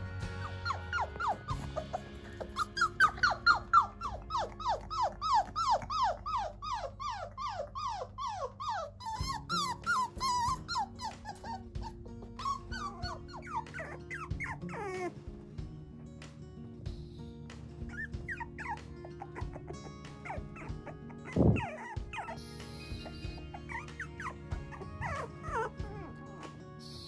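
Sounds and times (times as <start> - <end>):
quiet background music: 0.0 - 27.0
puppy whining and yelping: 0.2 - 15.2, 17.8 - 26.6.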